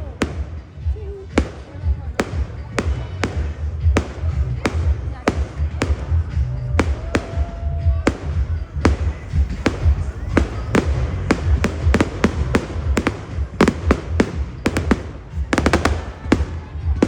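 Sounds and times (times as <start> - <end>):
fireworks bangs: 0.0 - 17.0
low rumble: 1.9 - 17.0.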